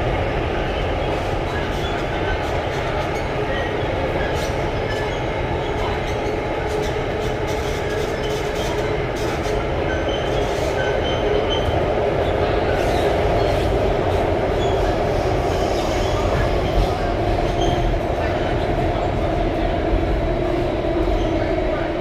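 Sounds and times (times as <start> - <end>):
metro wheels rumbling on rail: 0.0 - 22.0.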